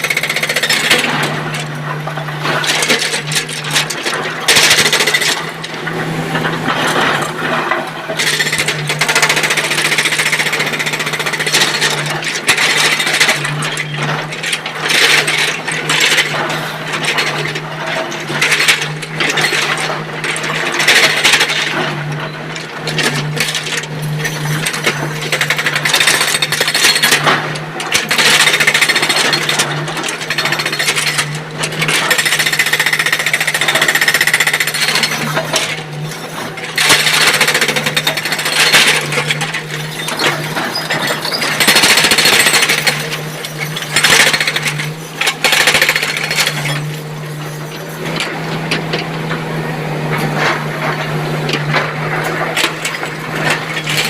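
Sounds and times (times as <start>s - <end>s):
excavator engine hum: 0.0s - 54.0s
machinery rattling and clanking: 0.0s - 54.0s.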